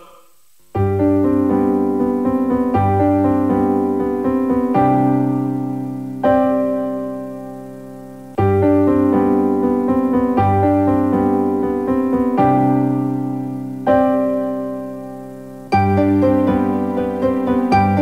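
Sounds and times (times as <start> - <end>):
piano music: 0.8 - 18.0.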